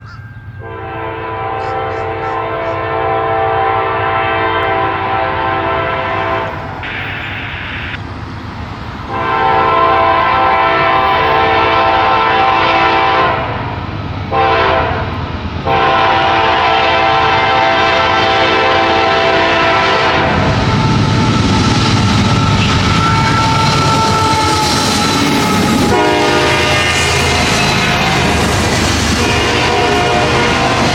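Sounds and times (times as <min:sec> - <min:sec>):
freight train rumble: 0:00.0 - 0:30.9
train air horn blasts: 0:00.6 - 0:07.2, 0:09.1 - 0:13.6, 0:14.3 - 0:30.9.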